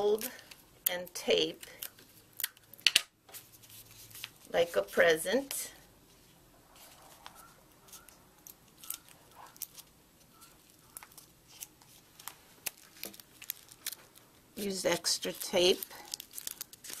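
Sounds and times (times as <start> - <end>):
paper crinkling and tape: 1.4 - 5.5, 6.1 - 17.0.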